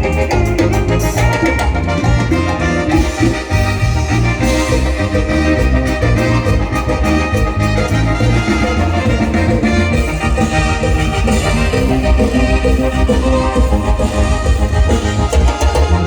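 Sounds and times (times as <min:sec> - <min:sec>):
live latin dance band: 0:00.0 - 0:16.0.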